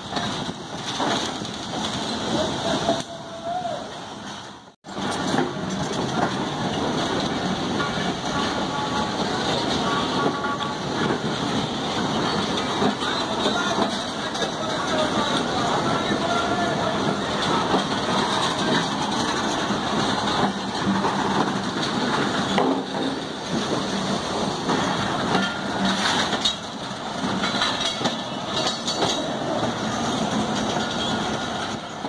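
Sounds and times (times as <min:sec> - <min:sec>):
train wheels rumbling on rails: 0:00.0 - 0:32.0
train knocks: 0:04.3 - 0:32.0.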